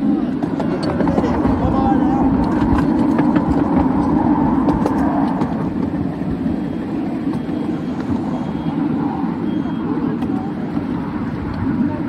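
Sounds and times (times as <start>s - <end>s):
train wheels rolling on rail: 0.0s - 12.0s.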